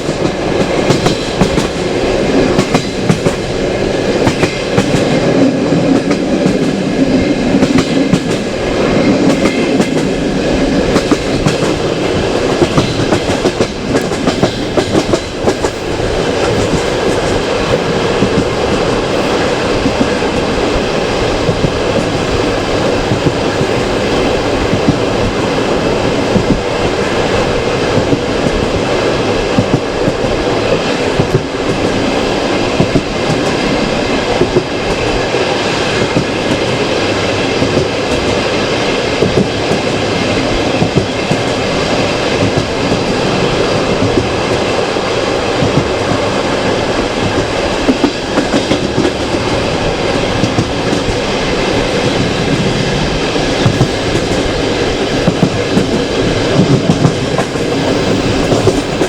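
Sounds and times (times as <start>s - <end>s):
train wheels rumbling on rails: 0.0s - 59.0s
wheels clacking over rail joints: 0.0s - 59.0s.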